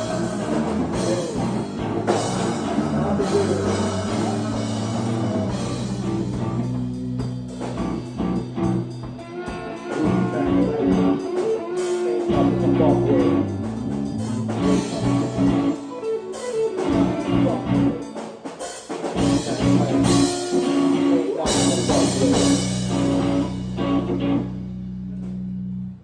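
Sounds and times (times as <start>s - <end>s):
live rock band playing: 0.0s - 25.7s.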